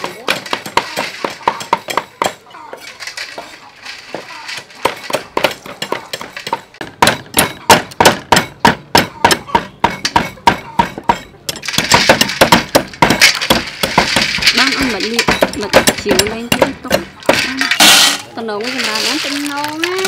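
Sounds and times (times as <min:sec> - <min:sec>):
cleavers chopping on wooden boards: 0:00.0 - 0:18.0.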